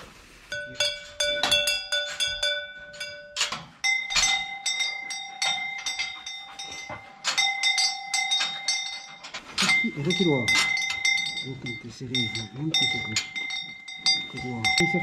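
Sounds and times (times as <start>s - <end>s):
cowbells clanging: 0.4s - 15.0s.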